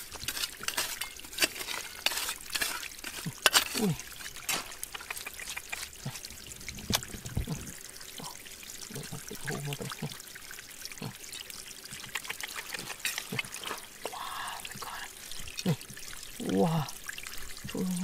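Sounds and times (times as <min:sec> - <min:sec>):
water pouring and trickling: 0:00.0 - 0:18.0.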